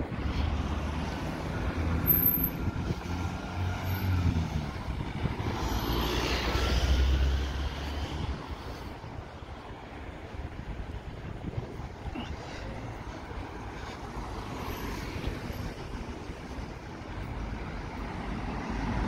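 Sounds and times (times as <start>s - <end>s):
vehicle engines passing: 0.0s - 19.0s.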